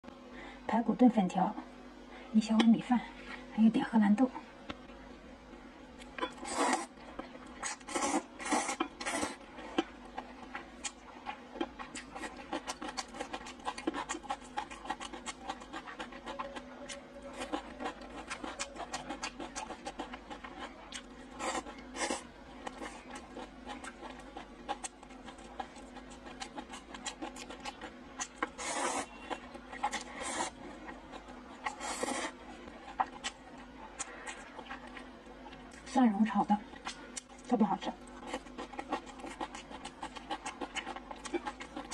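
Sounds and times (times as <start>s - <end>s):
wet chewing: 6.0s - 35.9s, 36.5s - 41.9s.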